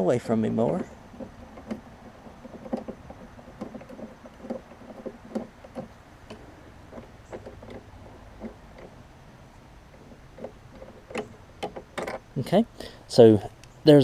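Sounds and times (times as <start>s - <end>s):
light clicks of metal and plastic parts: 0.0s - 14.0s.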